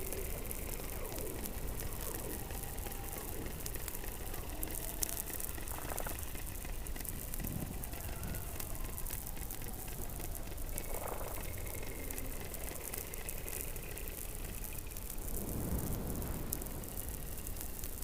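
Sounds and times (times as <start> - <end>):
underwater crackling hiss: 0.0 - 18.0.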